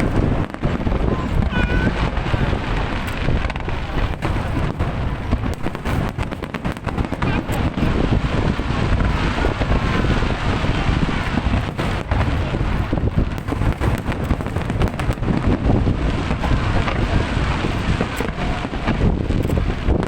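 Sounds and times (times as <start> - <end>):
fireworks bursting and crackling: 0.0 - 20.0
wind buffeting microphone: 0.0 - 20.0.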